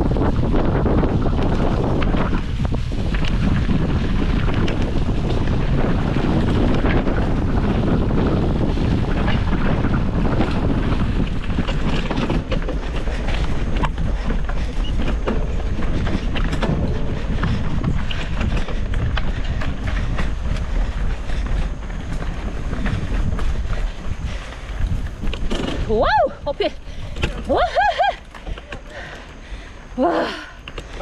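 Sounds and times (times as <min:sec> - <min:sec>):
bike clicks and rattles: 0:00.0 - 0:31.0
tyres rumbling over dirt: 0:00.0 - 0:31.0
wind buffeting microphone: 0:00.0 - 0:31.0.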